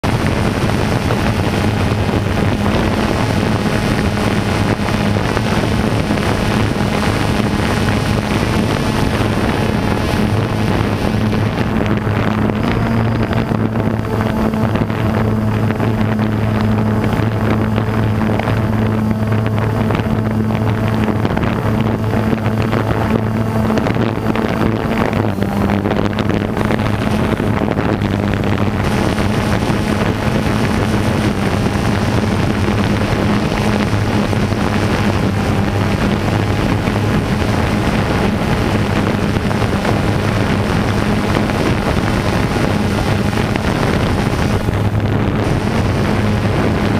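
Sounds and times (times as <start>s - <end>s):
drone propellers humming: 0.0s - 46.9s
wind buffeting microphone: 0.0s - 46.9s.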